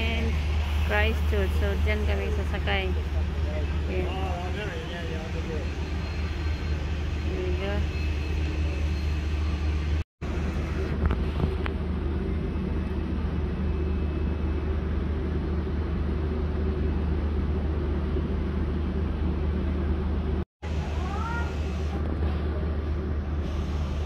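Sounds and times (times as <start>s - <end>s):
diesel train idling drone: 0.0s - 24.0s.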